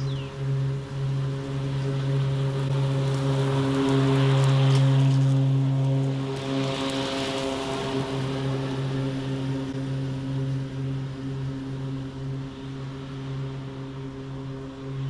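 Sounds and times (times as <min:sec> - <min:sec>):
electric mower hum and whine: 0:00.0 - 0:15.0
grass being cut: 0:00.0 - 0:15.0.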